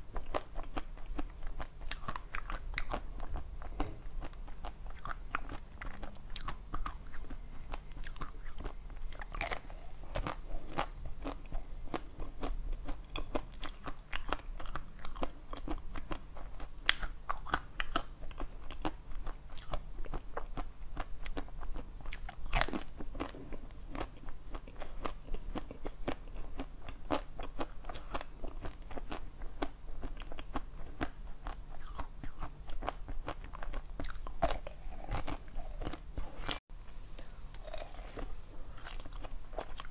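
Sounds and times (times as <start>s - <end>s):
crisp chewing crunches: 0.2s - 39.9s.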